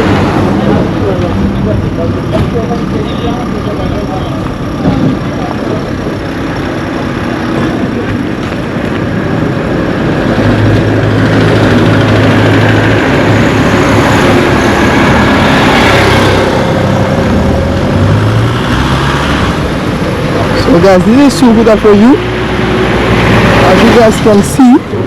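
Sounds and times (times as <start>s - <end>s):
vehicle passing by: 0.0s - 25.0s.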